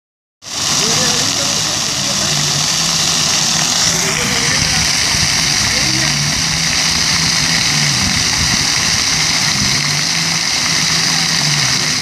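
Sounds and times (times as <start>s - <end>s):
fountain water splashing: 0.4s - 12.0s.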